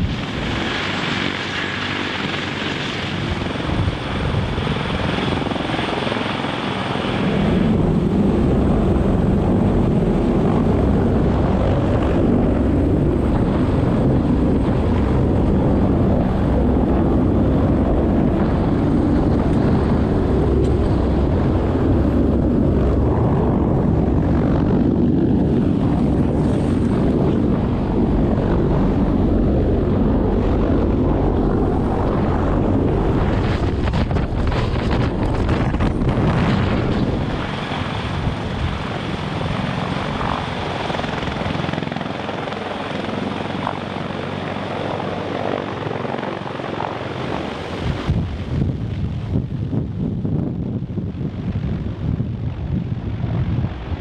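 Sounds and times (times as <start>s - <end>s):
helicopter hovering: 0.0s - 54.0s
rotor downwash rumble: 0.0s - 54.0s.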